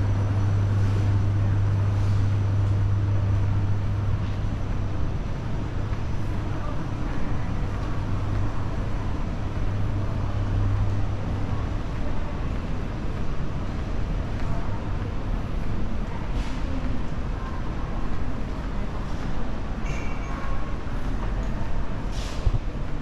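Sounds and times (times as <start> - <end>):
indoor noise wash: 0.0 - 23.0.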